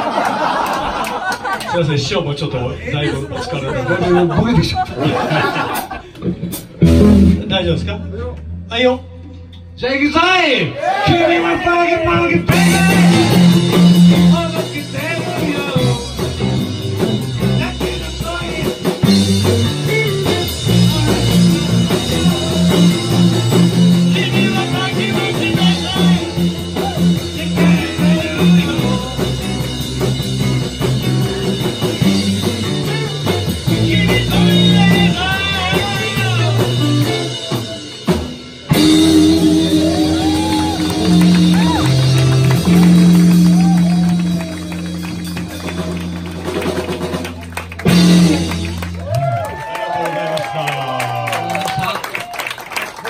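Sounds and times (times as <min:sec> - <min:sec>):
live rock band playing: 0:04.0 - 0:09.8, 0:12.0 - 0:51.9.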